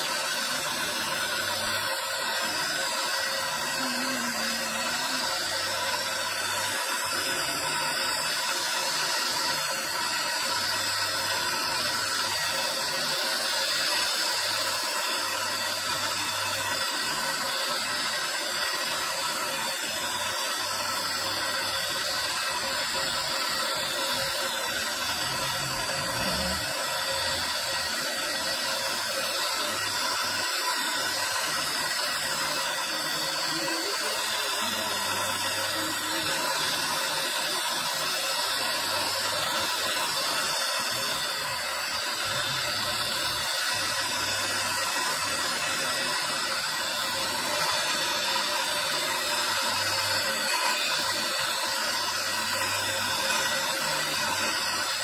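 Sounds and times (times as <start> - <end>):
rotary grinder grinding stone: 0.0 - 55.0.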